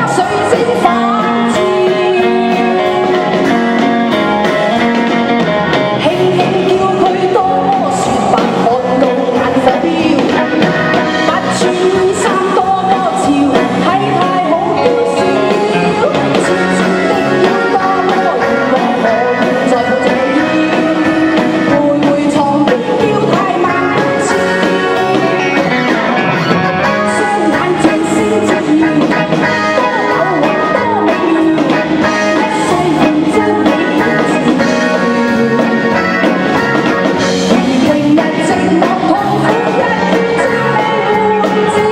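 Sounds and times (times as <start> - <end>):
drums: 0.0 - 41.9
guitar: 0.0 - 41.9
person singing: 0.0 - 41.9.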